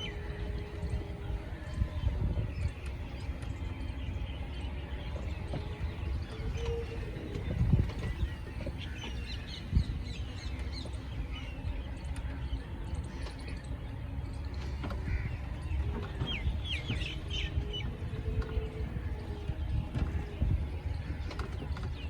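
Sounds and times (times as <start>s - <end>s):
songbirds chirping: 0.0s - 22.0s
steady low rumble: 0.0s - 22.0s.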